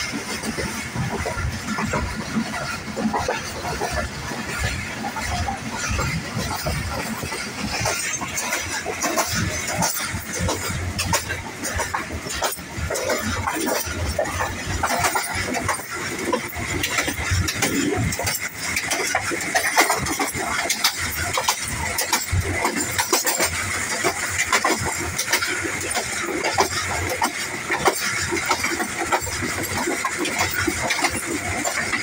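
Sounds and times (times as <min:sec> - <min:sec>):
train coach rumble and rattle: 0:00.0 - 0:32.0
wheels clicking on rails: 0:00.0 - 0:32.0.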